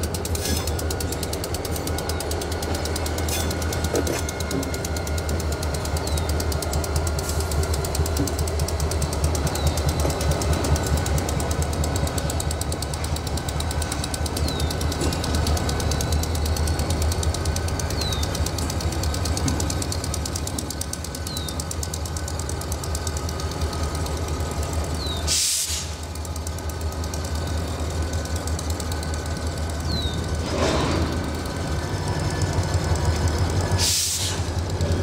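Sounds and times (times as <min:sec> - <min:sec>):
diesel locomotive engine running: 0:00.0 - 0:35.0.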